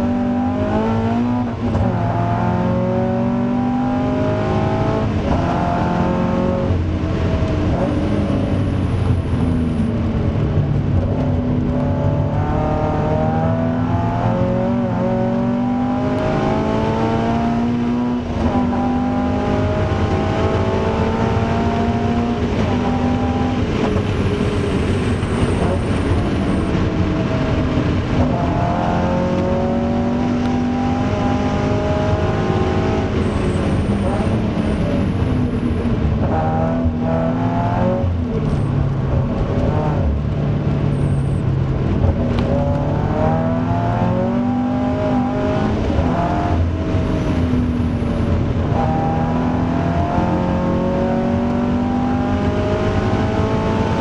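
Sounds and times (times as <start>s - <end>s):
car engine revving hard: 0.0s - 54.0s
road and tyre noise: 0.0s - 54.0s.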